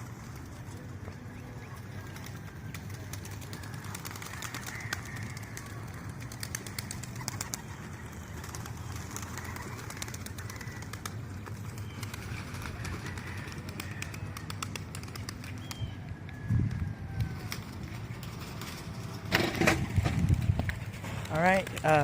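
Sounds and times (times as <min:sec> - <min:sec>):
pigeons cooing: 0:00.3 - 0:20.4.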